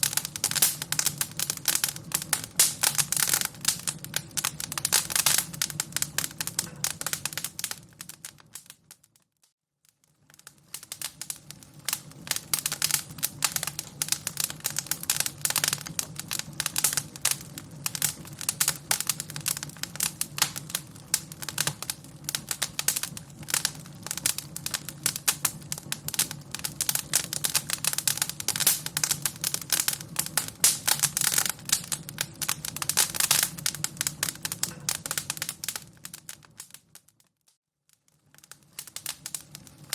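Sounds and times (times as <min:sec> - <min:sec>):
fire crackling: 0:00.0 - 0:09.2, 0:09.8 - 0:39.9.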